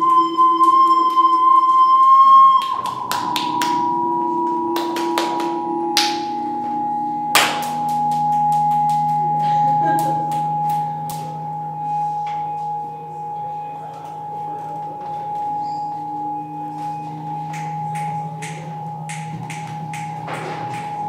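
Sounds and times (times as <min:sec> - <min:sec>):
feedback whistling tone: 0:00.0 - 0:21.0
low steady hums: 0:00.0 - 0:21.0.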